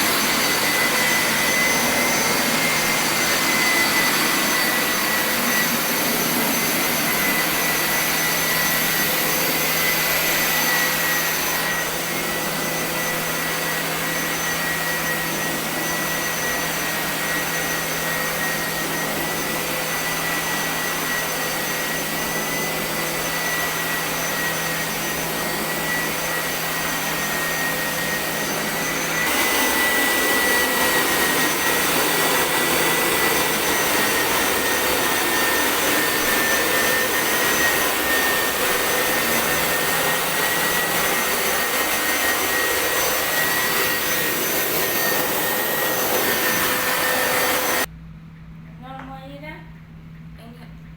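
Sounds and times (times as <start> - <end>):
suction motor whining: 0.0 - 47.9.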